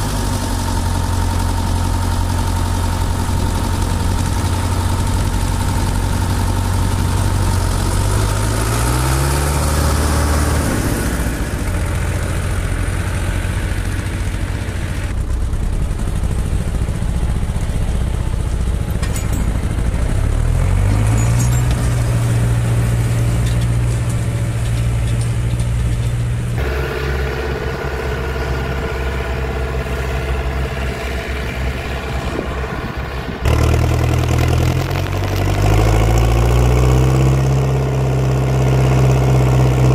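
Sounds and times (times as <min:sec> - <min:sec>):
farm machinery engines running: 0:00.0 - 0:39.9.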